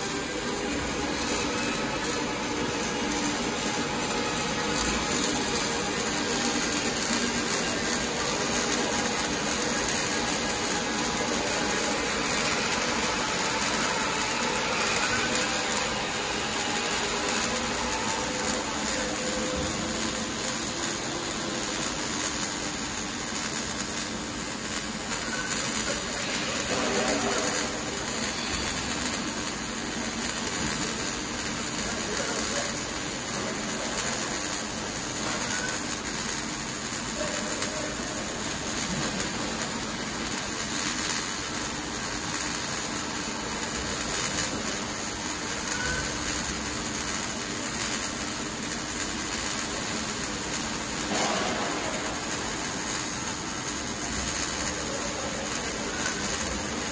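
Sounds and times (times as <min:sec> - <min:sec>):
arc welding hiss: 0:00.0 - 0:56.9.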